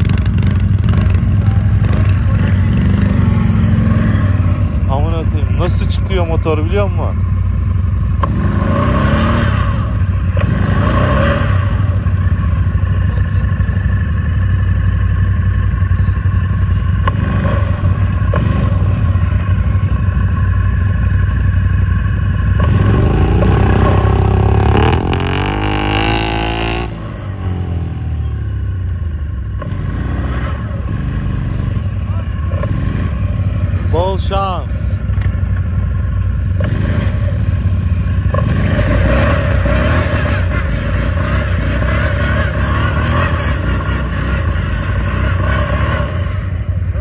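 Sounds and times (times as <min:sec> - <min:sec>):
quad engine running hard: 0:00.0 - 0:47.0.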